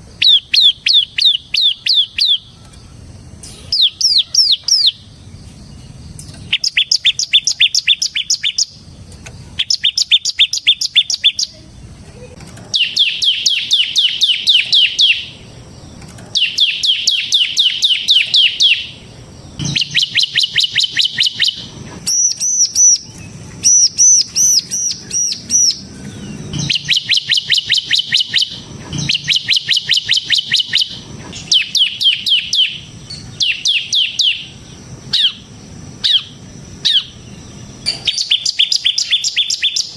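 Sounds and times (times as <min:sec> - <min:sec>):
bird singing downslurred notes: 0:00.0 - 0:11.7, 0:12.7 - 0:15.7, 0:16.3 - 0:39.9.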